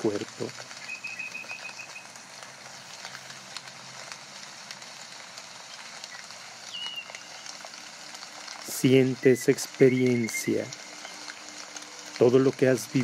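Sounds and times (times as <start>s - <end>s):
steady crackling hiss: 0.0s - 13.0s.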